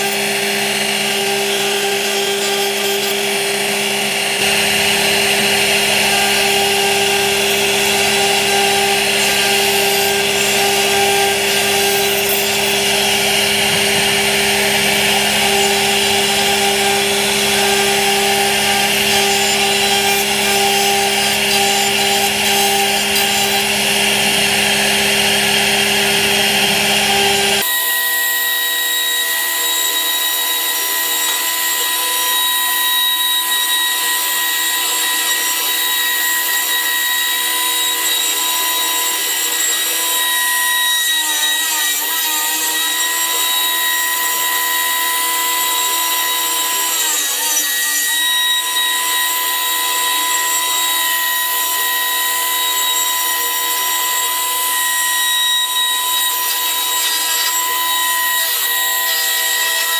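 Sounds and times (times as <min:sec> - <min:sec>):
router spindle whining: 0:00.0 - 0:59.9.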